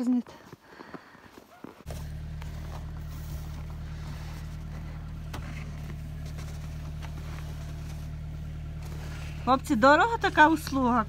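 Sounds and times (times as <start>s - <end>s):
car engine idling: 1.8s - 11.0s.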